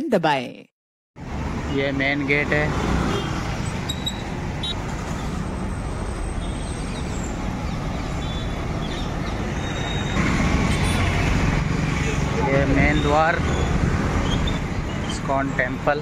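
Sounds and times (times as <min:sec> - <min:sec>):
road traffic passing: 0:01.2 - 0:16.0.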